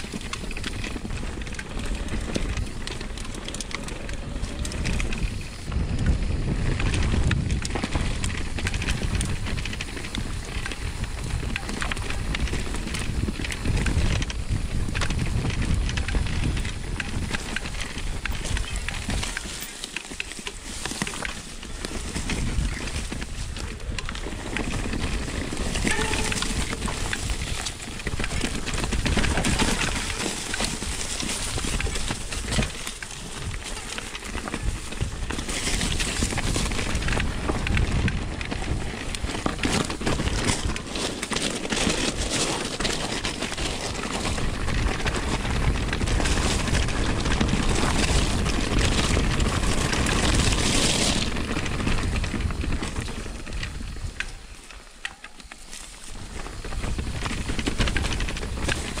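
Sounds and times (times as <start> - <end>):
wind on microphone: 0.0 - 19.6, 21.3 - 54.6, 56.1 - 59.0
bike rattling over bumps: 0.0 - 59.0
tyres crunching over dirt: 0.0 - 59.0.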